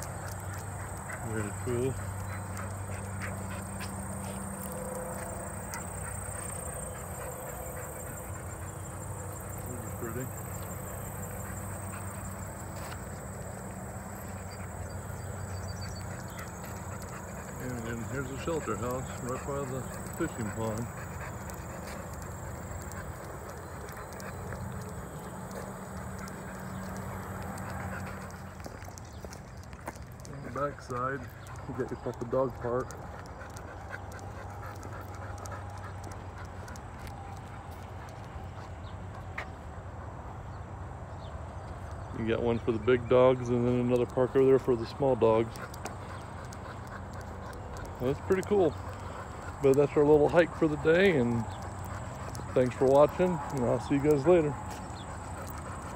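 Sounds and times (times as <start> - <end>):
insects trilling: 0.0 - 39.2, 41.9 - 55.9
dog panting: 0.0 - 55.9.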